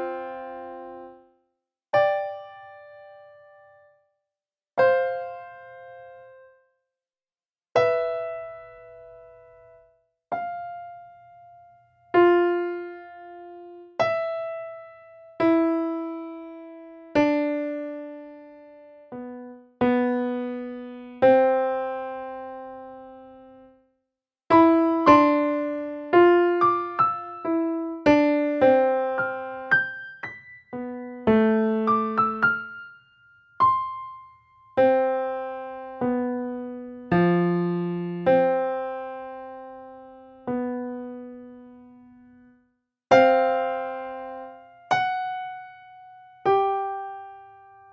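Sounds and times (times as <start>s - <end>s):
slow solo piano: 0.0s - 4.0s, 4.8s - 6.6s, 7.8s - 23.8s, 24.5s - 47.9s.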